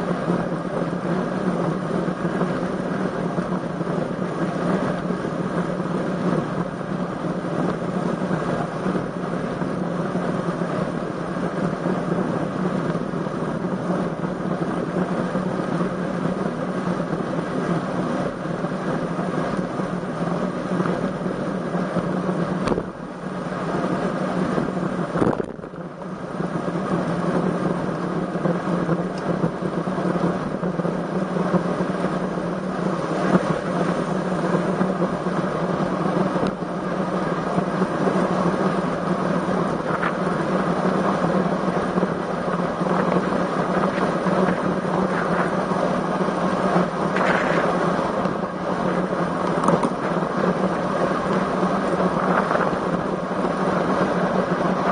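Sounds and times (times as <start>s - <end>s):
bike road noise: 0.0s - 54.9s
wind on microphone: 0.0s - 54.9s.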